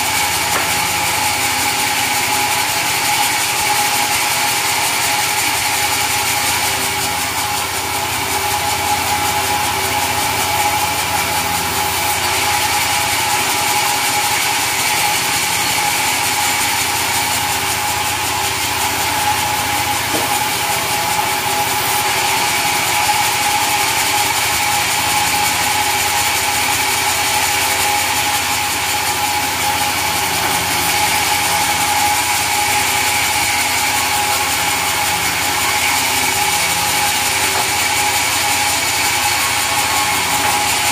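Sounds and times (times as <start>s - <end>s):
sawmill saw whining: 0.0s - 40.9s.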